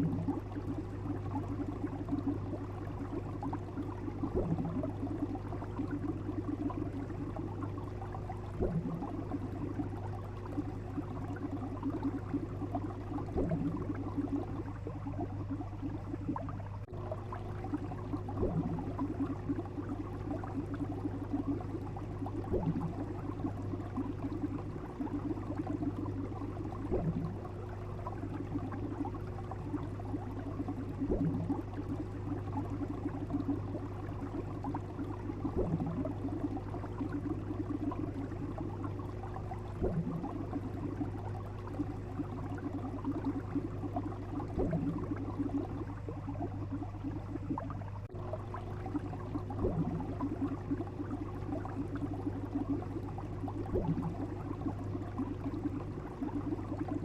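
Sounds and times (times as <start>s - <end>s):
soft pulse: 0.0s - 57.0s
steady low hum: 0.0s - 57.0s
water bubbling and gurgling: 0.0s - 57.0s.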